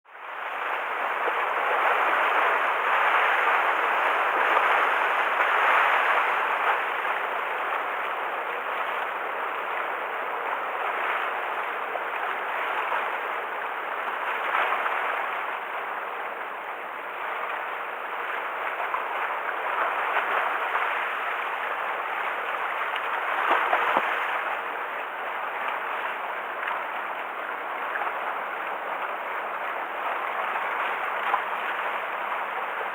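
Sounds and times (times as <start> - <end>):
waves breaking on shore: 0.1 - 32.9.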